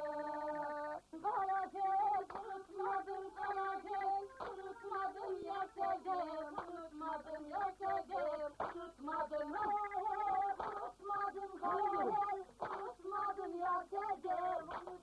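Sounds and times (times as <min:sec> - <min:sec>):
woman singing folk tune: 0:00.0 - 0:15.0.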